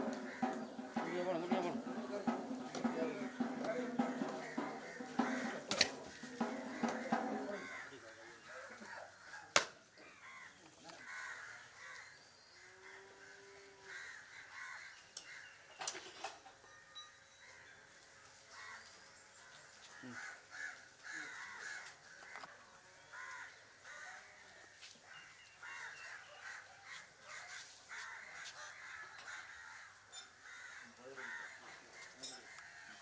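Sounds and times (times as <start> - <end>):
faint crows cawing: 0.0 - 33.0.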